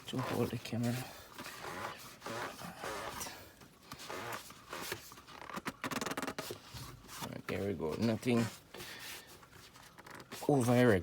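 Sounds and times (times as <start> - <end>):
oil filter scraping while threaded: 0.0 - 10.9.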